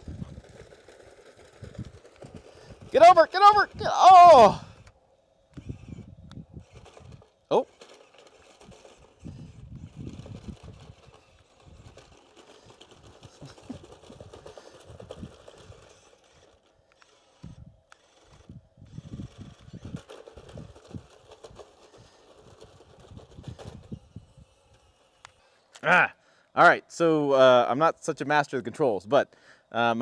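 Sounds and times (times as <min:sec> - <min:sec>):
toy truck knocks and rattles: 0:00.0 - 0:25.8.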